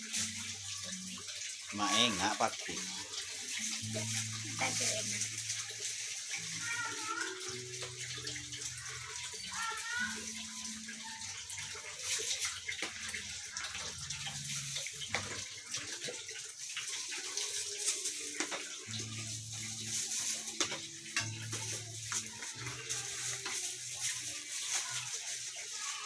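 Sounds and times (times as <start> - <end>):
hot oil sizzling and crackling: 0.0 - 26.0.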